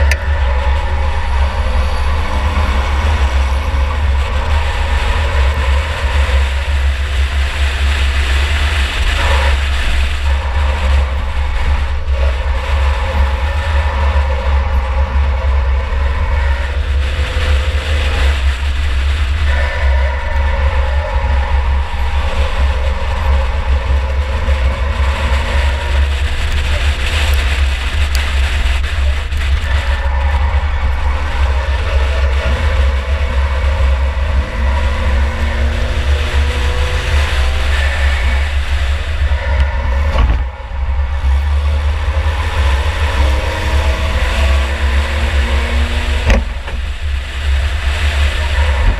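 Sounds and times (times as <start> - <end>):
car engine rumbling: 0.0 - 48.9
road and wind noise: 0.0 - 48.9.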